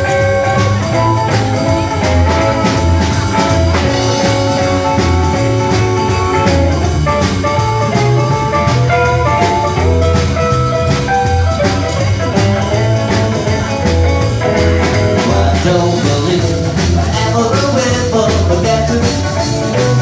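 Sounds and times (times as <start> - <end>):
drum kit: 0.0 - 20.0
electric guitar: 0.0 - 20.0
upright double bass: 0.0 - 20.0.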